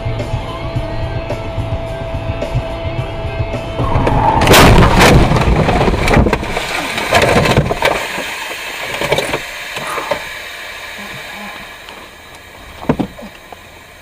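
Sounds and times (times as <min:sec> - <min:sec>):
vehicle noise: 0:00.0 - 0:14.0.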